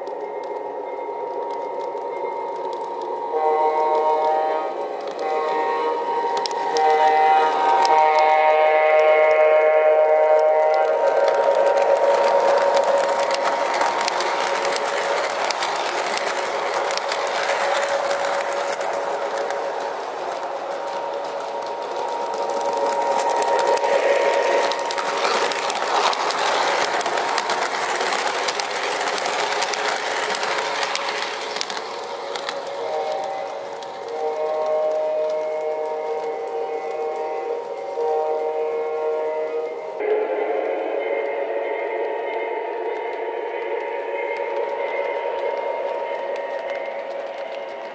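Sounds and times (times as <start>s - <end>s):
toy train wheels clattering: 0.0s - 9.6s, 10.2s - 40.0s, 42.0s - 47.9s.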